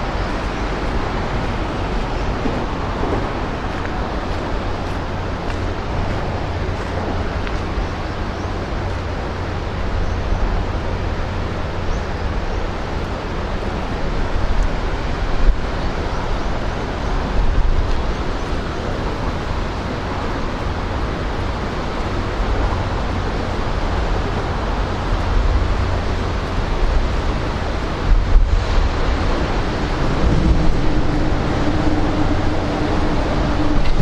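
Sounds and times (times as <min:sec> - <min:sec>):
rough sea water rushing: 0:00.0 - 0:34.0
wind buffeting microphone: 0:00.0 - 0:34.0.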